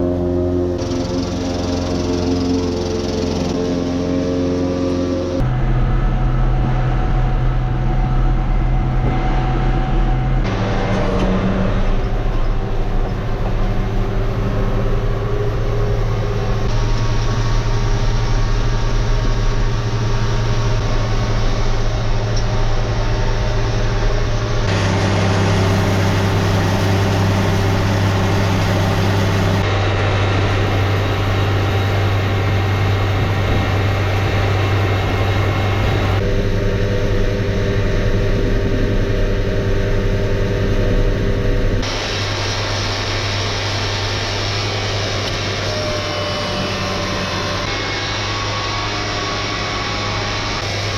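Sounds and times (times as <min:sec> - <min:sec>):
engine humming: 0:00.0 - 0:50.9.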